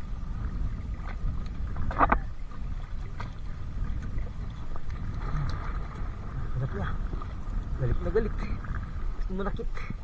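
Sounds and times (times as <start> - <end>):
water lapping among boulders: 0.0 - 10.0
wind buffeting microphone: 0.0 - 10.0.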